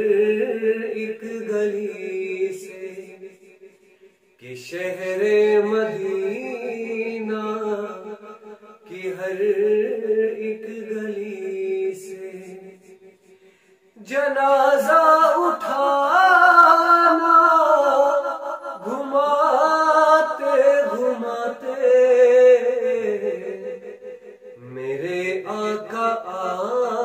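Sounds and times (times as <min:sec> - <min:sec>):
man singing unaccompanied: 0:00.0 - 0:03.3, 0:04.4 - 0:12.8, 0:14.0 - 0:27.0.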